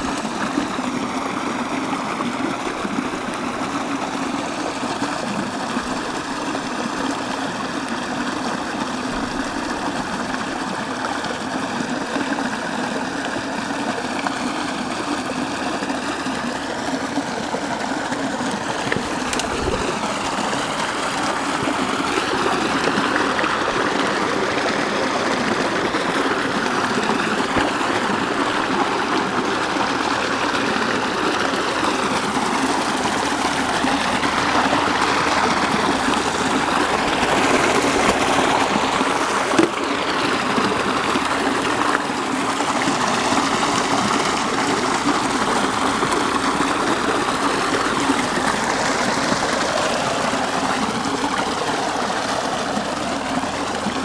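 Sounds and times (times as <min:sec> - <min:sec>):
creek rushing over rocks: 0:00.0 - 0:54.0.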